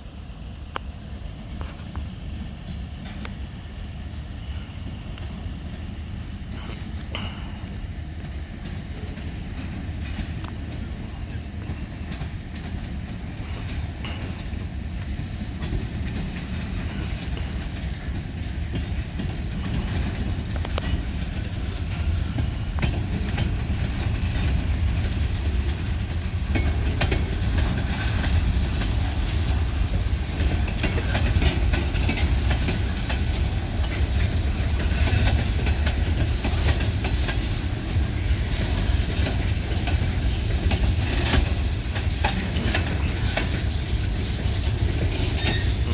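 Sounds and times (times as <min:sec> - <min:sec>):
freight train rolling by: 0:00.0 - 0:45.9
wheels clacking over track: 0:06.6 - 0:45.9.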